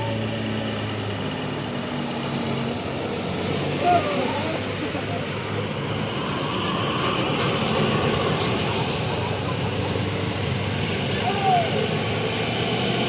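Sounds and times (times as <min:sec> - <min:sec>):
road noise: 0:00.0 - 0:13.0
vehicle engines rumbling: 0:00.0 - 0:13.0.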